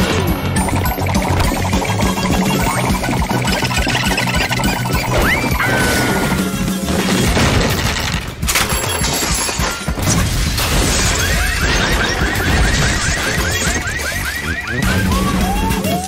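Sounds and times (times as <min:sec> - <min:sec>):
cartoon crashes and smashes: 0:01.3 - 0:16.0.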